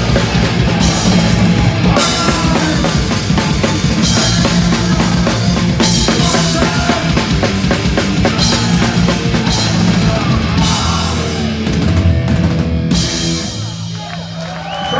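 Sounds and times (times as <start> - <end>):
distorted guitar: 0.0 - 13.9
bass guitar: 0.0 - 14.9
drum kit: 0.0 - 14.9.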